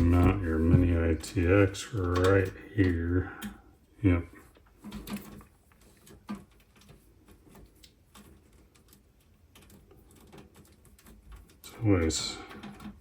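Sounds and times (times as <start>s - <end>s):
light clicks and taps: 0.0s - 3.7s, 4.3s - 13.0s.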